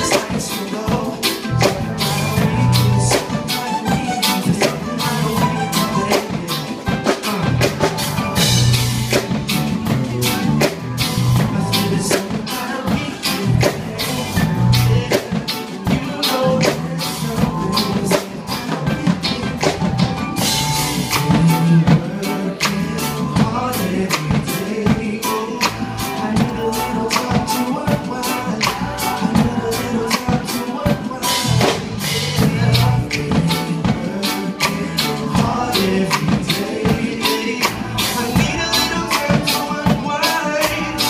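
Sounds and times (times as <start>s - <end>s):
drum kit beat: 0.0s - 41.0s
live reggae band playing: 0.0s - 41.0s.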